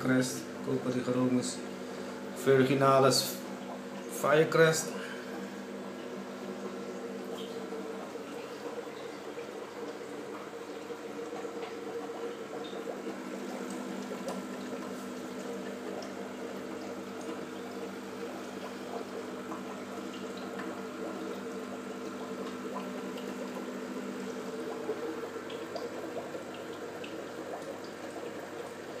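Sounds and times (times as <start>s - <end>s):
aquarium water bubbling: 0.0s - 29.0s
steady low hum: 0.0s - 29.0s.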